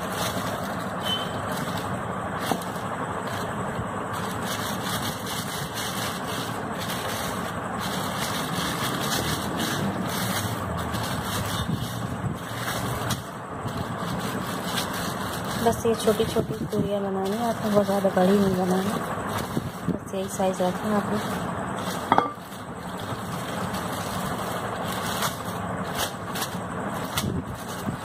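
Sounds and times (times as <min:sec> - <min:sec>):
plastic sheet crinkling: 0:00.0 - 0:28.0
steady rushing background noise: 0:00.0 - 0:28.0.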